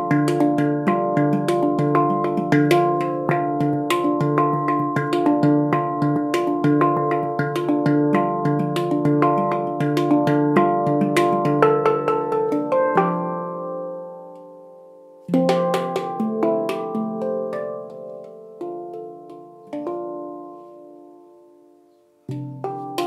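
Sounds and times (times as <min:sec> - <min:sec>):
handpan notes: 0:00.0 - 0:23.0.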